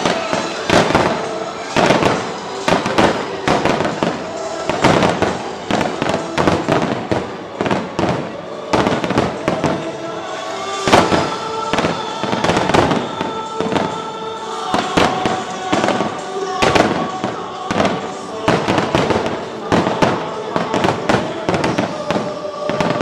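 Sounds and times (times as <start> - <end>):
fireworks bangs and crackles: 0.0 - 23.0
music with sustained tones: 0.0 - 23.0.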